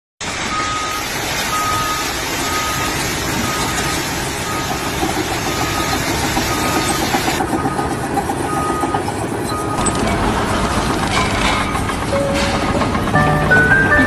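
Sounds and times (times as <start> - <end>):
reversing alarm beeping: 0.5 - 14.0
vehicle engine running: 1.5 - 14.0.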